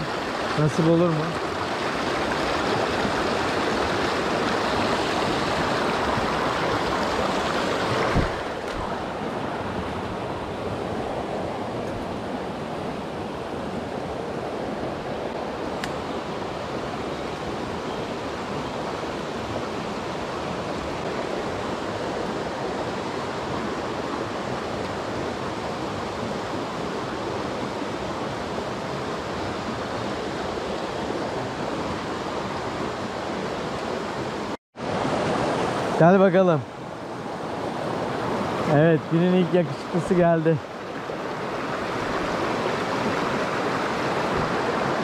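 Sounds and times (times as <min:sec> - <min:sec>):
stream water flowing over rocks: 0:00.0 - 0:45.0.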